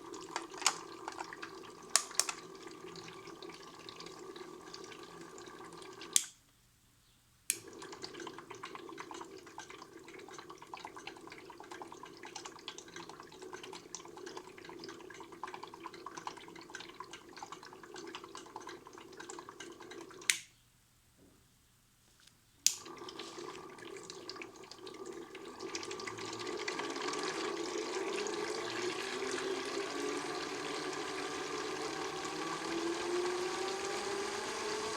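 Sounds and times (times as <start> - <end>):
water trickling into washing machine: 0.0 - 6.2, 7.6 - 20.3, 22.8 - 34.9.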